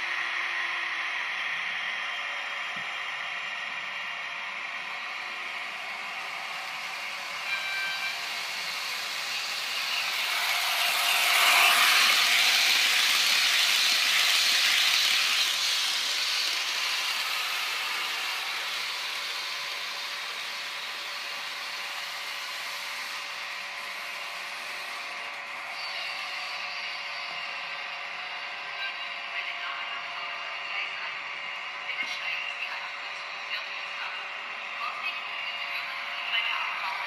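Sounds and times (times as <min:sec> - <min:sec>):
train rolling past: 0:00.0 - 0:31.1.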